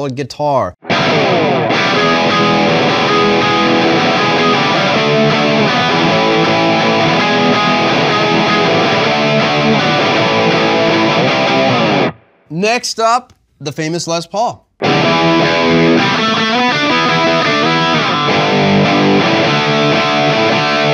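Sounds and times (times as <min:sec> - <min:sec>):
distorted electric guitar riffs: 0:00.8 - 0:12.4, 0:14.8 - 0:20.9.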